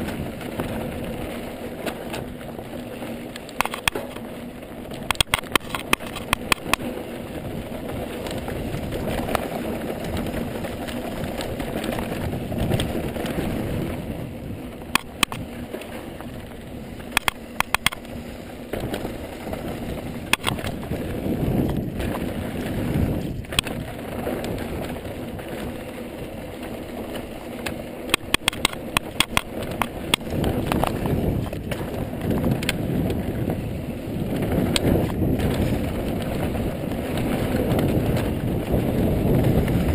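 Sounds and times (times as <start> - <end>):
bike rattling over bumps: 0.0 - 39.9
bike tyres rumbling on dirt: 0.0 - 39.9
wind on microphone: 3.6 - 39.9.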